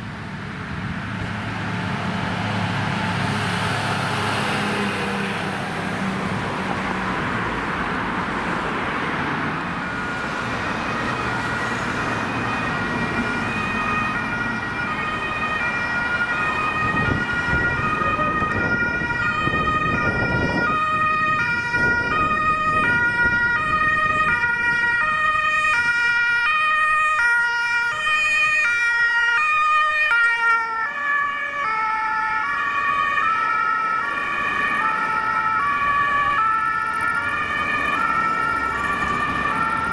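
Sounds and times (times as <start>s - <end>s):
fire engine departing: 0.0s - 39.9s
road traffic: 0.0s - 39.9s
two-tone emergency sirens: 1.4s - 39.9s.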